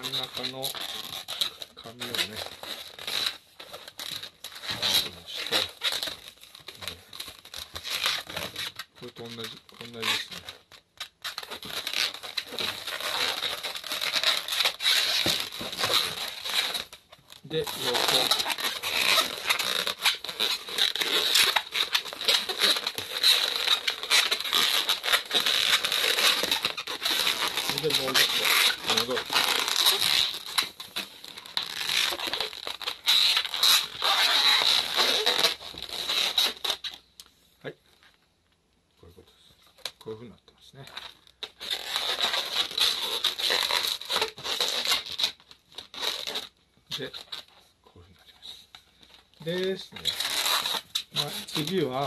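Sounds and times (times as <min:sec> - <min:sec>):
balloons rubbing and squeaking: 0:00.0 - 0:38.2, 0:39.0 - 0:52.0.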